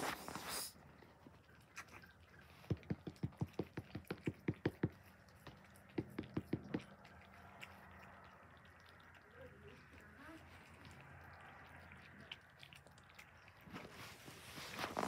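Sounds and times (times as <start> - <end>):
cat chewing food: 0.1 - 15.0.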